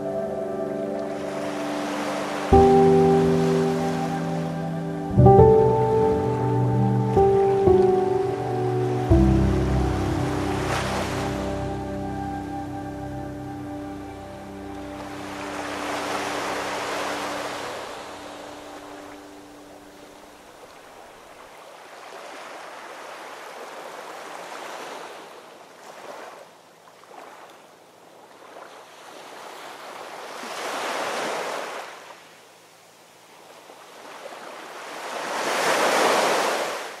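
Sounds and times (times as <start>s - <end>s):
waves breaking on beach: 0.0s - 6.4s, 7.2s - 12.5s, 13.9s - 37.0s.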